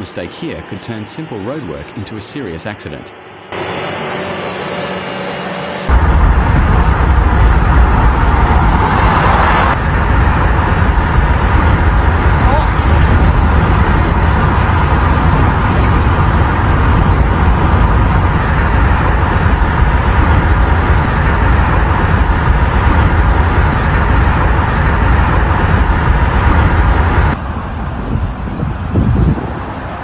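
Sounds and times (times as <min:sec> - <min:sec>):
vehicle engine and traffic noise: 0:00.0 - 0:30.0.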